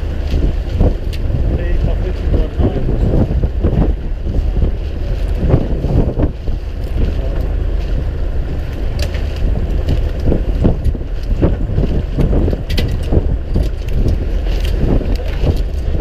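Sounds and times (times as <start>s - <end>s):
low engine rumble: 0.0s - 16.0s
rushing water: 0.0s - 16.0s
wind buffeting microphone: 0.0s - 16.0s.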